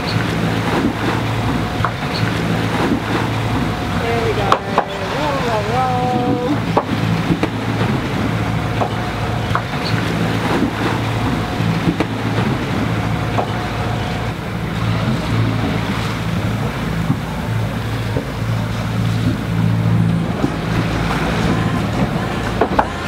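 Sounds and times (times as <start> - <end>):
steady low hum: 0.0 - 23.0
water splashing along hull: 0.0 - 23.0.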